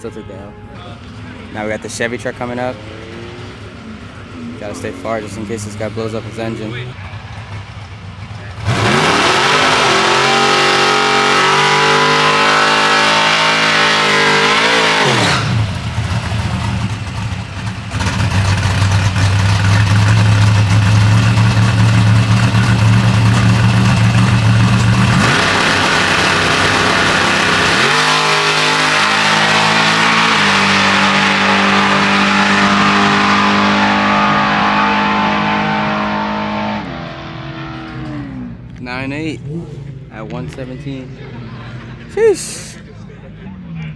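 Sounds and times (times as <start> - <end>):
truck engines revving hard: 0.0 - 43.9.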